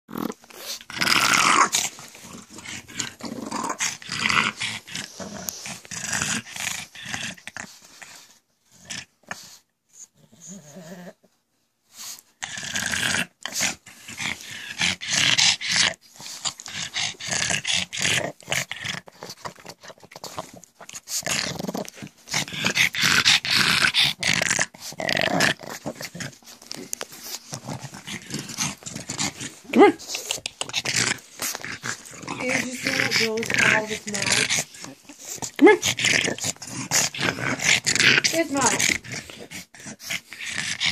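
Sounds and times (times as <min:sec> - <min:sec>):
pug making rough harsh noises: 0:00.1 - 0:11.2, 0:11.9 - 0:40.9.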